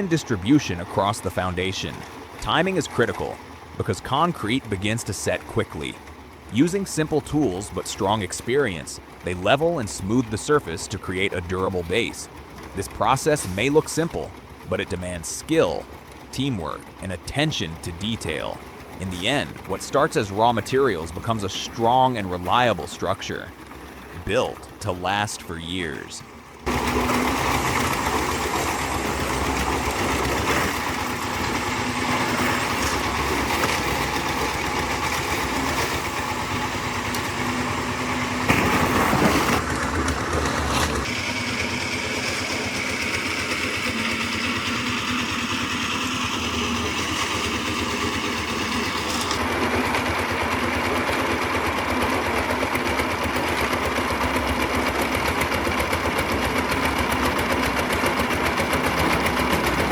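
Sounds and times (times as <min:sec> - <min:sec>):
small engine chattering: 0:00.0 - 0:59.9.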